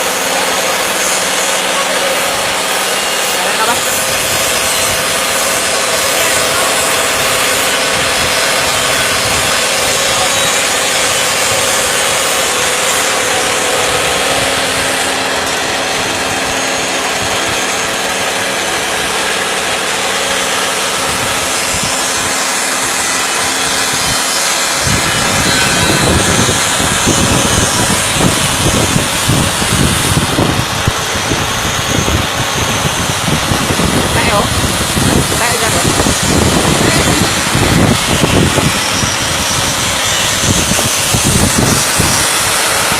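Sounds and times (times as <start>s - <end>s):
shredding machine motor grinding: 0.0s - 42.9s.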